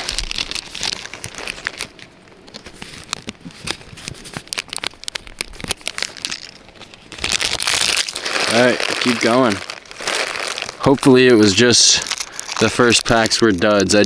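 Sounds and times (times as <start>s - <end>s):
foil wrapper crinkling: 0.0s - 14.0s
trading cards being handled: 0.0s - 14.0s.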